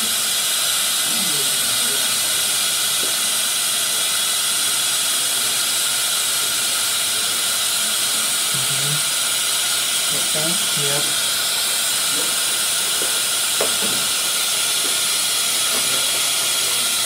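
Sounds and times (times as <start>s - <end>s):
dental suction hissing: 0.0s - 17.0s.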